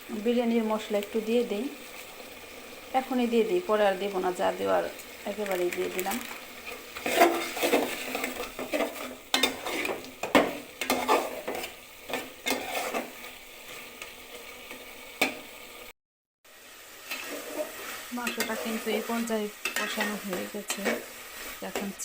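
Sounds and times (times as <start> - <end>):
meat sizzling in a pot: 0.0 - 22.0
stirring and scraping a pot: 0.8 - 15.4, 17.0 - 22.0.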